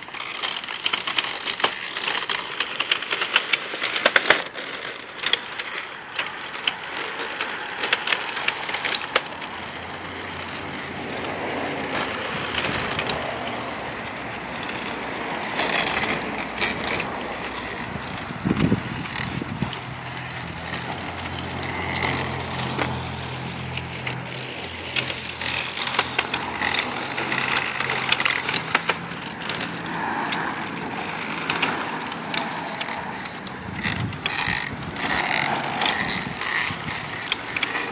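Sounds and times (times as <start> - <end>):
motors and gears whirring: 0.0 - 37.9
plastic parts clicking: 0.0 - 37.9.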